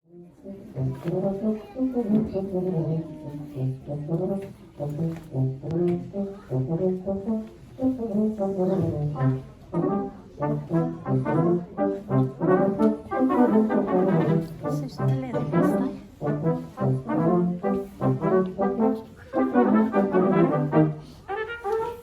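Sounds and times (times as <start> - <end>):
brass quartet playing: 0.1 - 22.0.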